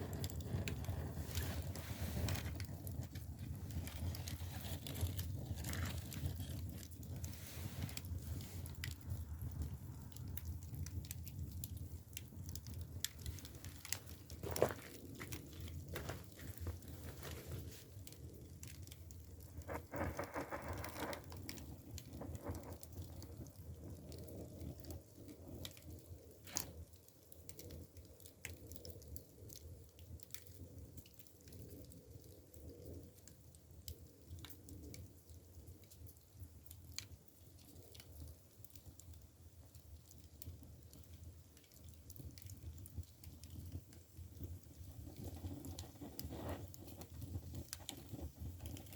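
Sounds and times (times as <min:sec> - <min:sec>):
firewood crackling and popping: 0:00.0 - 0:48.9
low fire rumble: 0:00.0 - 0:48.9.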